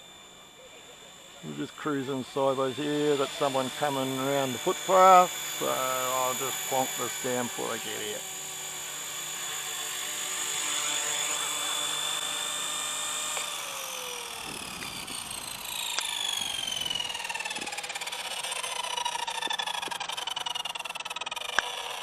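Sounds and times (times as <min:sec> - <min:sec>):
rc helicopter motor whining: 0:00.0 - 0:22.0.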